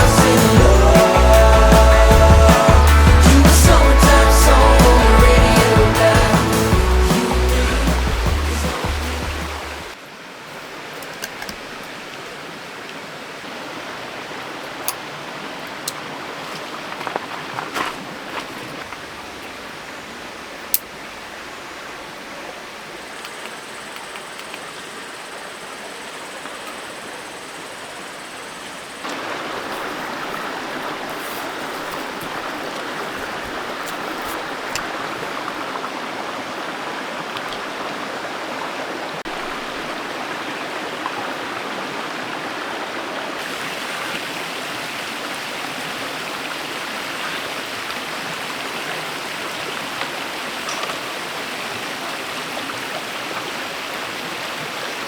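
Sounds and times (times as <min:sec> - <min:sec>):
stream flowing over rocks: 0:00.0 - 0:26.4, 0:29.0 - 0:55.0.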